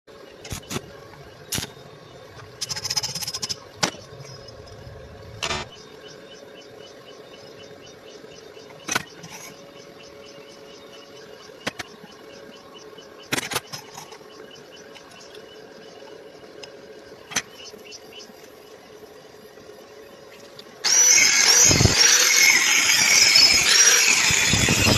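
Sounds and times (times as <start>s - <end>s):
steady hum: 0.1s - 24.9s.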